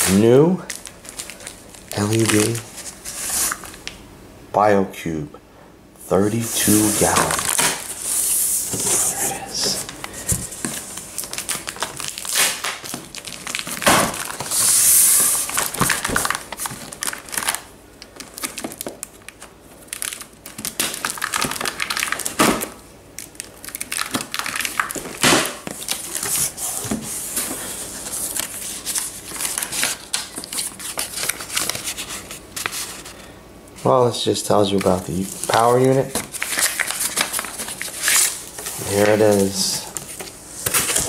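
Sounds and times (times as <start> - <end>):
cardboard and plastic crinkling: 0.0 - 3.9, 6.4 - 33.2, 34.6 - 41.0.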